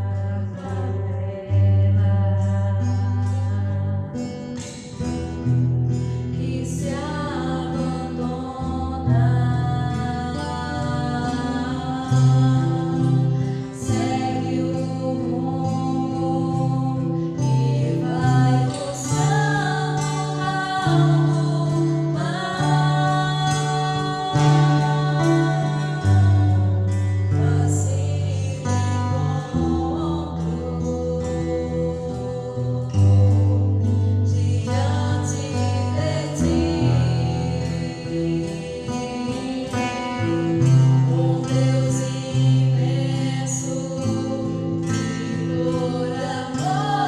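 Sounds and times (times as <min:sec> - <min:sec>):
gospel song with singing: 0:00.0 - 0:47.0.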